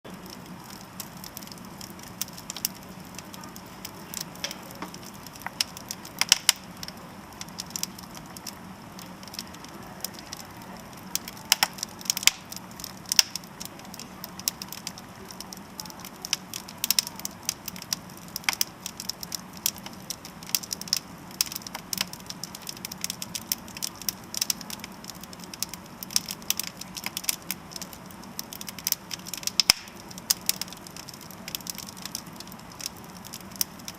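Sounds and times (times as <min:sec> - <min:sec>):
faint steady hum: 0:00.0 - 0:33.9
wood fire crackling: 0:00.0 - 0:33.9.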